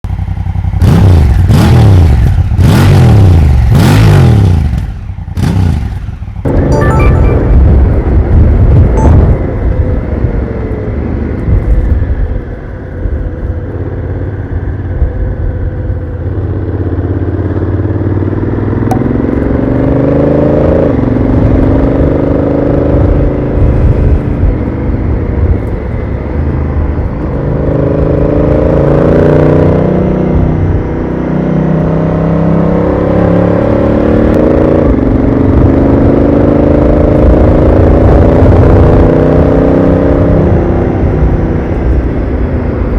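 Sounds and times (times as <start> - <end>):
wind and road rumble: 0.0 - 42.9
motorcycle engine accelerating: 0.1 - 42.9.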